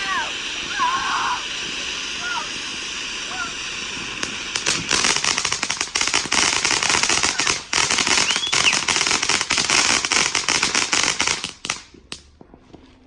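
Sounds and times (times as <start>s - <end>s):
firework crackling: 0.0s - 12.8s.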